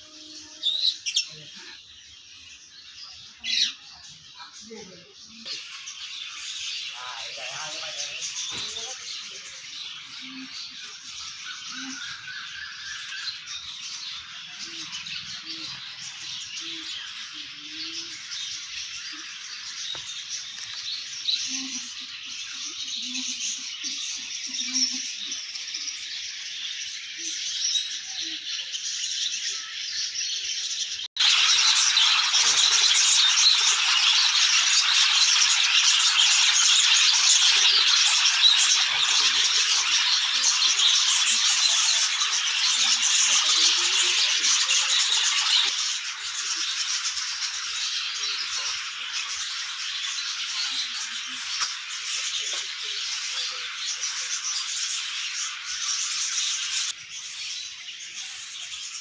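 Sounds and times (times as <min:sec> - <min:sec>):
small birds chirping and chattering: 0:00.0 - 0:59.0.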